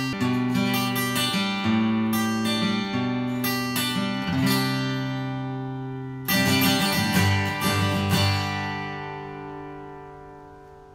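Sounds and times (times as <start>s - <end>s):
acoustic guitar strumming: 0.0s - 10.9s.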